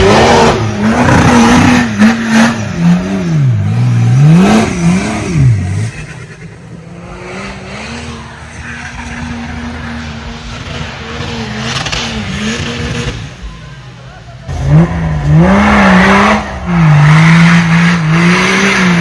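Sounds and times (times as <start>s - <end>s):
off-road vehicle engine revving: 0.0s - 13.4s, 14.5s - 19.0s.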